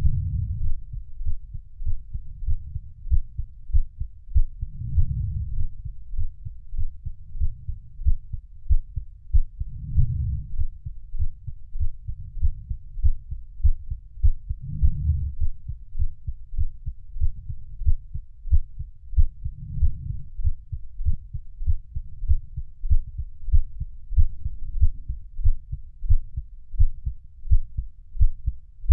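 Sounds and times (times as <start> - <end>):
heartbeat thumps: 0.0 - 28.9.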